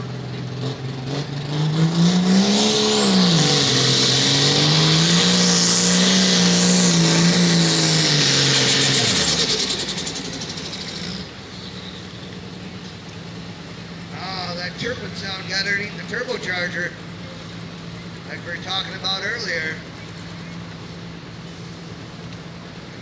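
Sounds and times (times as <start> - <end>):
tractor engine running hard: 0.0 - 23.0.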